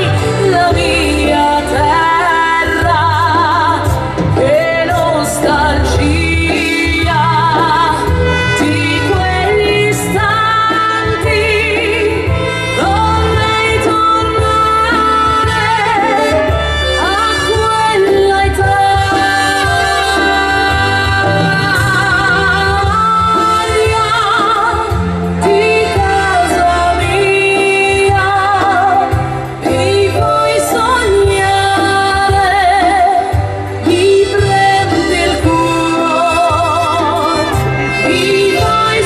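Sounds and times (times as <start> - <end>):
amplified keyboard: 0.0 - 39.0
woman singing a ballad: 0.0 - 39.0.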